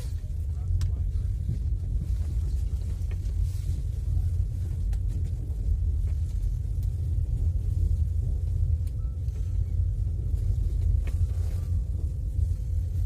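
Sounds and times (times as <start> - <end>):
train carriage rumbling on rails: 0.0 - 13.0.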